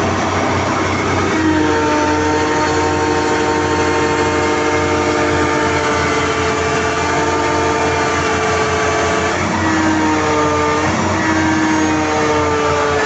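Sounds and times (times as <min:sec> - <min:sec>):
hydraulic pump whine: 0:00.0 - 0:13.0
loud machinery noise: 0:00.0 - 0:13.0.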